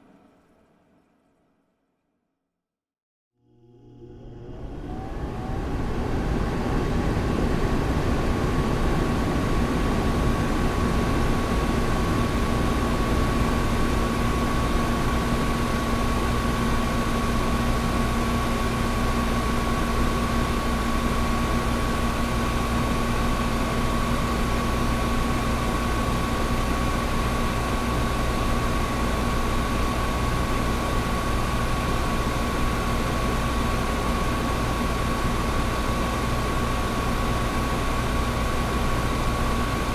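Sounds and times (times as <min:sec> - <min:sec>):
window air conditioner running: 0:03.5 - 0:39.9.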